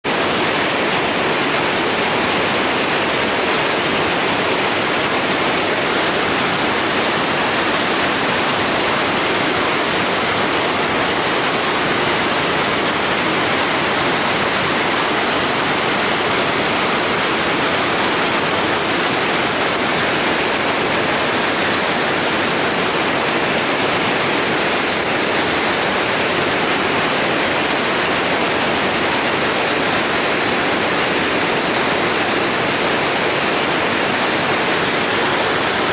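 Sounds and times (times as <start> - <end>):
waterfall splashing into pool: 0.0 - 35.9.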